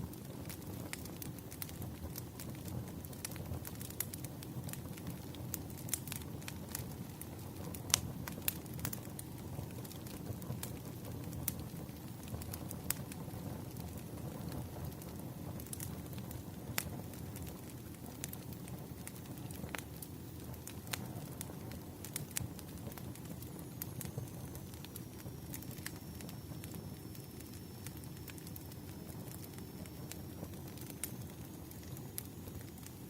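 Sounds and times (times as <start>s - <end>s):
firewood crackling and popping: 0.0s - 33.0s
low rumble of flames: 0.0s - 33.0s.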